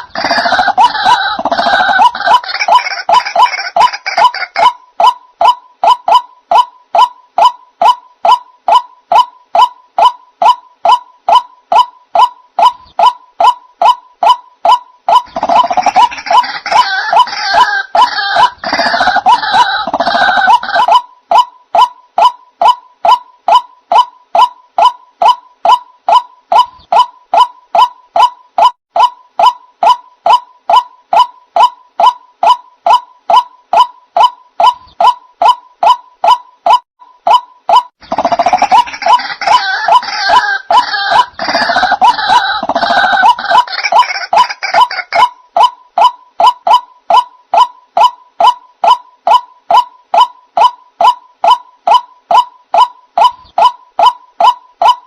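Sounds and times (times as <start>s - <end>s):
waterhen croaking calls: 0.0s - 55.0s.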